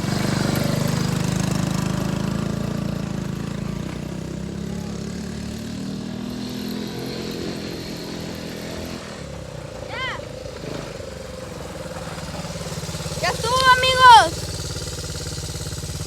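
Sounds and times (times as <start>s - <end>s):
motorcycle engine under throttle: 0.0s - 16.0s.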